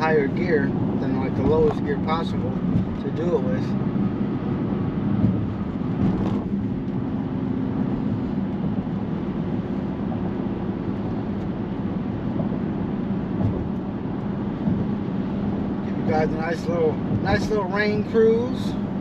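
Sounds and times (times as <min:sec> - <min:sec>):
car engine under throttle: 0:00.0 - 0:19.0.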